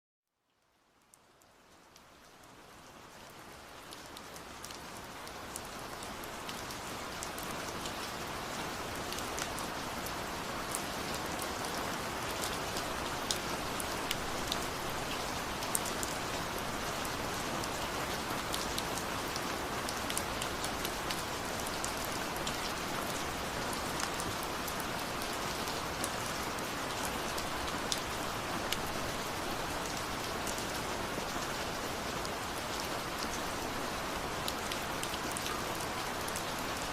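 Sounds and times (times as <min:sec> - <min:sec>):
steady rain falling: 0:00.3 - 0:36.9.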